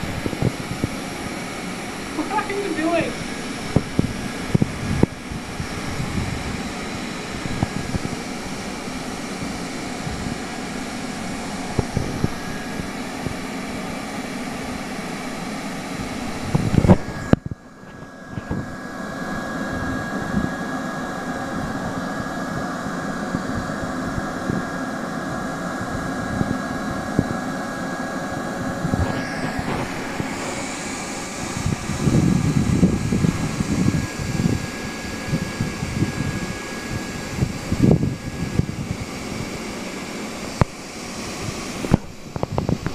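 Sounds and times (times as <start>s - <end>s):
hot-air welding gun whine: 0.0s - 42.9s.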